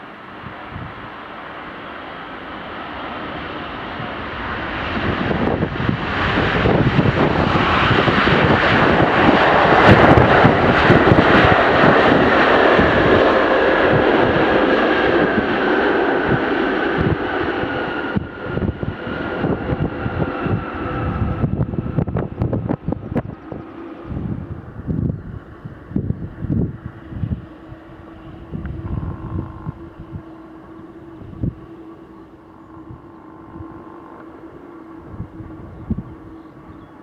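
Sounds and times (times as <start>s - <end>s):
jet engines roaring: 0.0s - 37.0s
wind noise on microphone: 0.3s - 1.3s, 3.3s - 37.0s.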